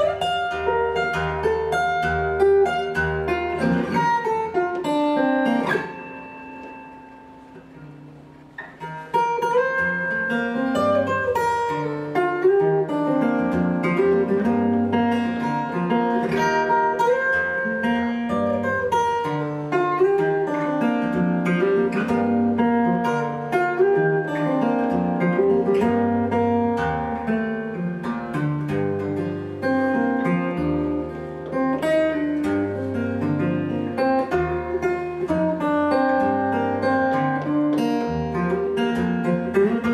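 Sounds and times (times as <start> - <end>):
fingerstyle acoustic guitar: 0.0 - 39.9.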